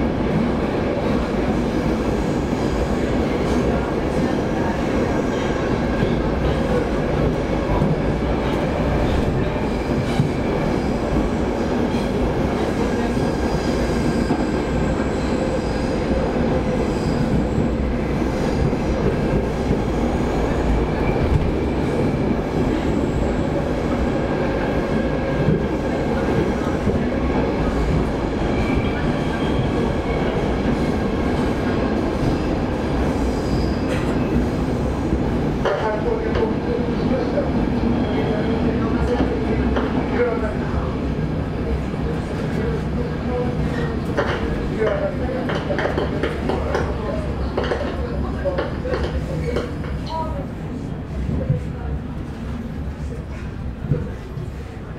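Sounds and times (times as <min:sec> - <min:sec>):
train wheels rumbling on track: 0:00.0 - 0:54.9.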